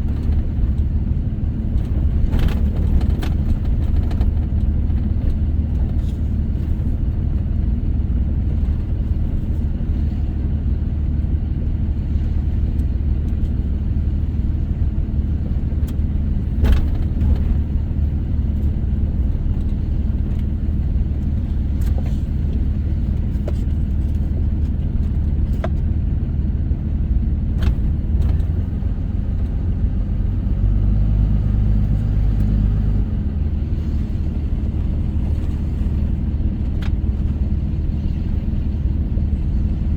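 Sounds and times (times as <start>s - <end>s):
vehicle driving on dirt road: 0.0s - 39.9s.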